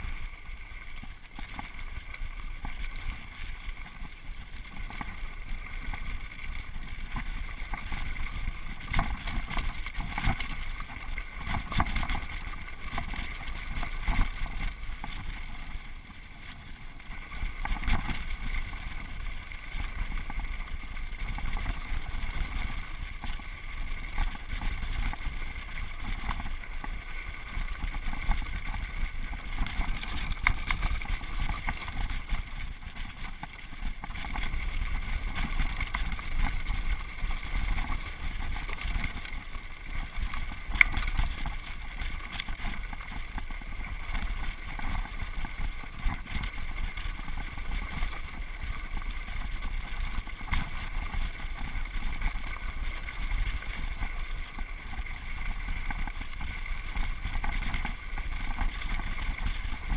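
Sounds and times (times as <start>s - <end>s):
mountain bike rattling on rocky trail: 0.0s - 59.9s.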